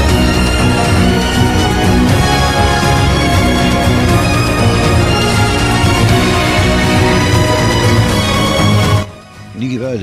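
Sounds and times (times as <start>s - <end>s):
background music with sustained notes: 0.0s - 10.0s.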